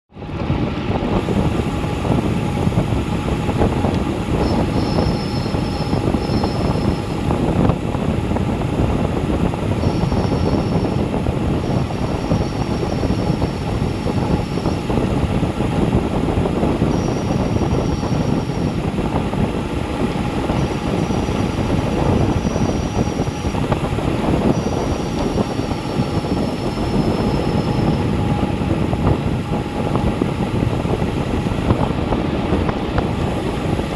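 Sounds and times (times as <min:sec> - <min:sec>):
tyre and road noise: 0:00.1 - 0:33.9
wind rushing over microphone: 0:00.1 - 0:33.9.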